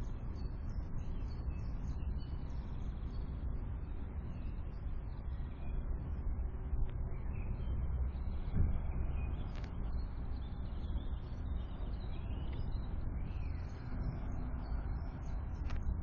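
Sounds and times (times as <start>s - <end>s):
bird chirps: 0.0s - 5.9s, 7.1s - 16.0s
steady low rumble: 0.0s - 16.0s.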